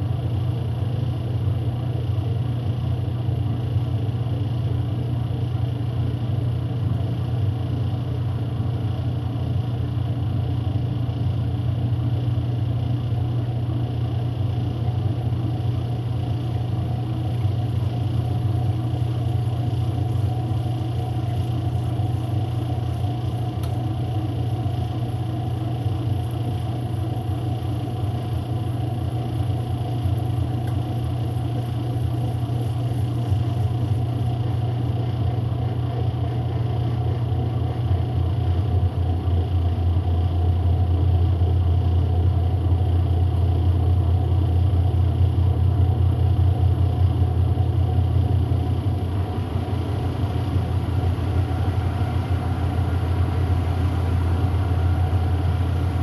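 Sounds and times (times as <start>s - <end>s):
washing machine motor humming: 0.0s - 56.0s.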